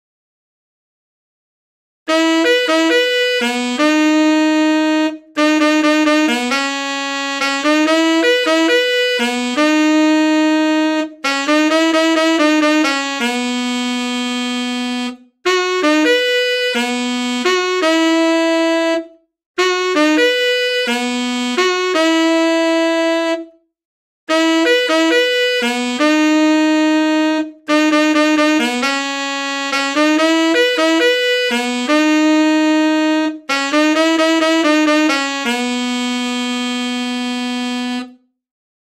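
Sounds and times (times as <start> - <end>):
solo saxophone melody: 2.1 - 23.7, 24.3 - 38.4.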